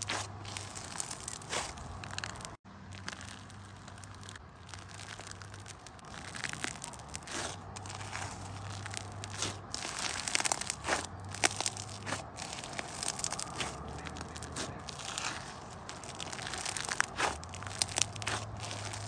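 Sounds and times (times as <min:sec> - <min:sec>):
slime crackling and popping: 0:00.0 - 0:19.0.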